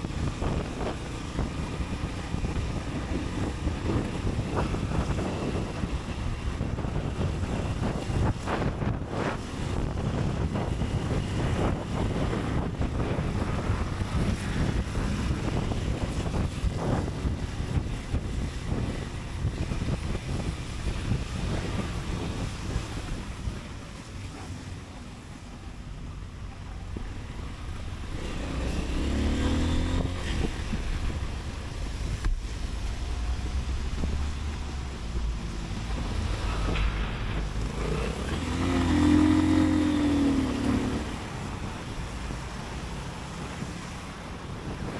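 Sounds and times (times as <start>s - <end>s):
motorcycle engine rumble: 0.0s - 44.9s
wind buffeting microphone: 0.0s - 44.9s.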